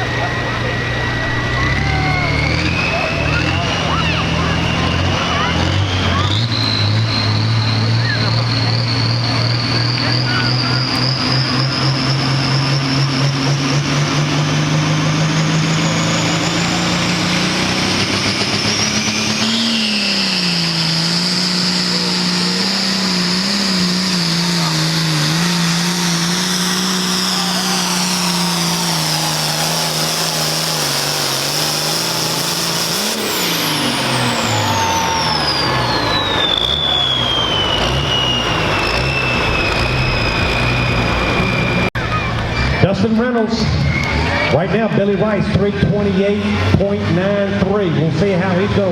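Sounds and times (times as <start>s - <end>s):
diesel tractor engine at full throttle: 0.0s - 48.9s
turbo whine: 0.0s - 48.9s.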